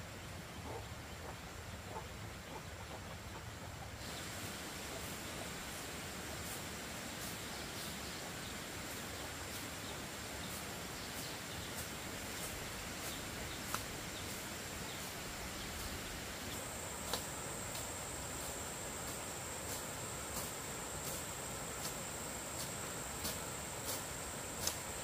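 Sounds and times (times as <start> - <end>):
continuous high hiss: 0.0 - 25.0.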